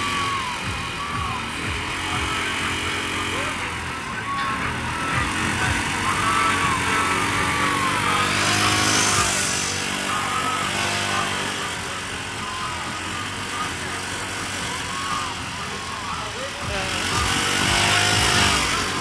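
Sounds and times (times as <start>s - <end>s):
tractor engine running: 0.0s - 19.0s
voices in background: 0.0s - 19.0s.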